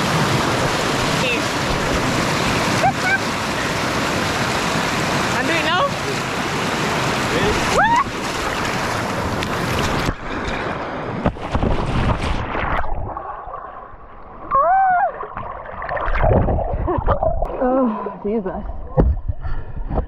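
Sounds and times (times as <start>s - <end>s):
rushing river water splashing: 0.0s - 17.8s.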